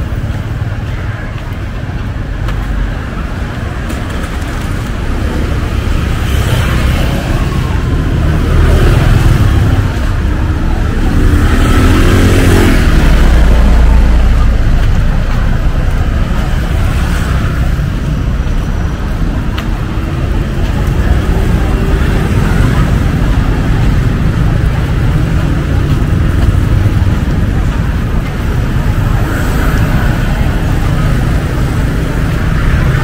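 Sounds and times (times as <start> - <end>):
low traffic rumble: 0.0 - 33.0
vehicle engines passing: 0.0 - 33.0.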